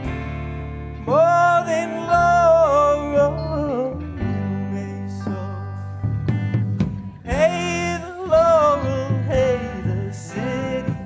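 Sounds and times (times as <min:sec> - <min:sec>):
guitars and bass holding chords: 0:00.0 - 0:11.0
wavering melody line: 0:00.5 - 0:11.0.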